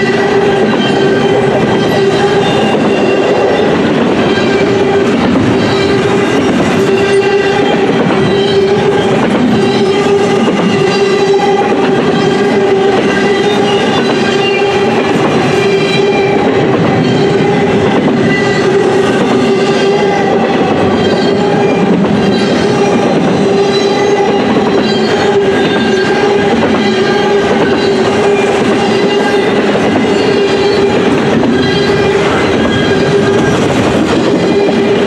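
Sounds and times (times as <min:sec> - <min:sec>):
train wheels rolling on rails: 0:00.0 - 0:35.0.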